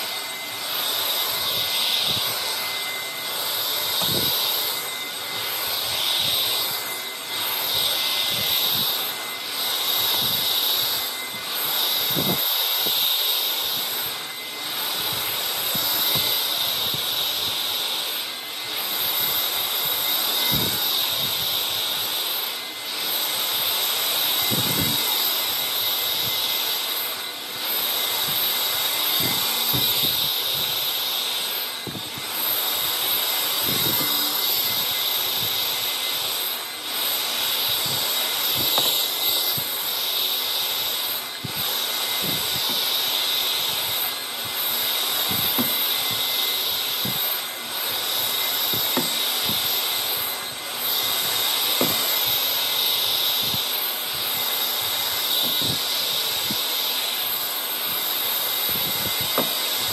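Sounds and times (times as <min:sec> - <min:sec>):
stick vacuum cleaner whine: 0:00.0 - 0:59.9.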